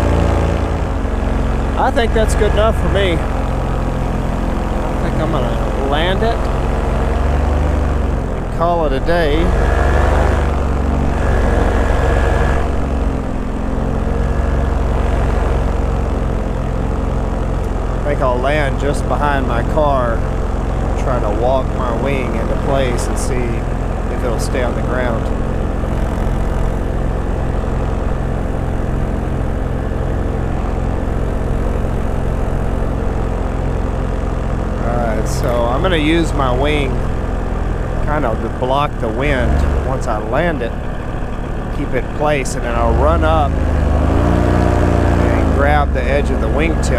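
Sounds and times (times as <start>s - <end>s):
paramotor engine and propeller: 0.0s - 46.9s.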